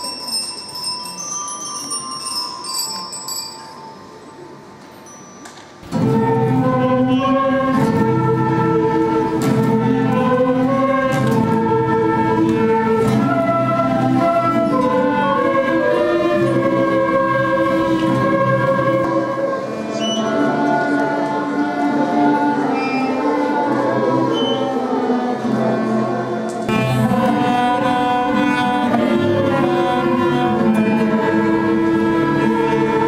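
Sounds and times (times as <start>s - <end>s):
ensemble playing held chords: 5.8s - 33.0s.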